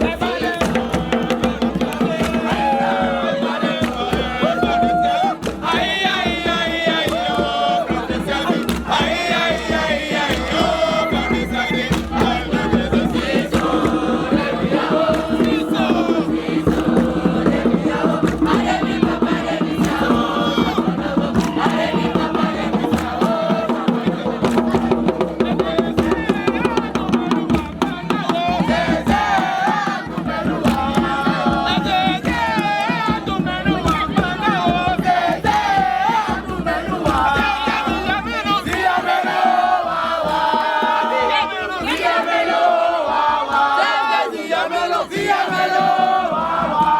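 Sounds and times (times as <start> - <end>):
group chanting and singing: 0.0 - 46.9.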